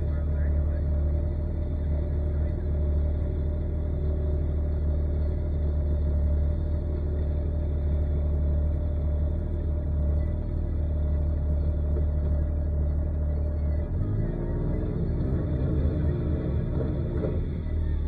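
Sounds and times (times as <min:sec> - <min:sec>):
off-road vehicle low rumble: 0:00.0 - 0:18.0.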